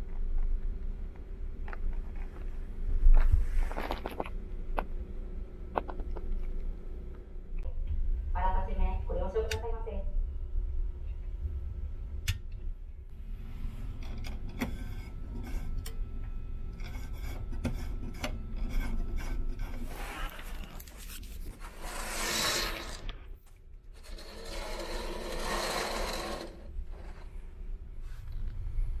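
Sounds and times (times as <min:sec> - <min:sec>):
low steady hum: 0:00.0 - 0:22.0, 0:22.7 - 0:29.0.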